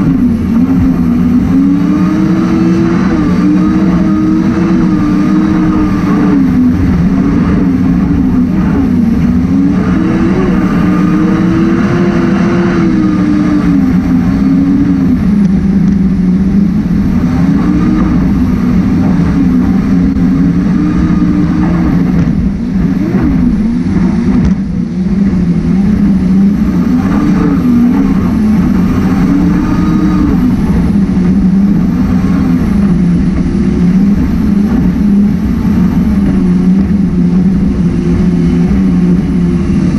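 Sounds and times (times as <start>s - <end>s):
jet boat engine revving: 0.0s - 39.9s.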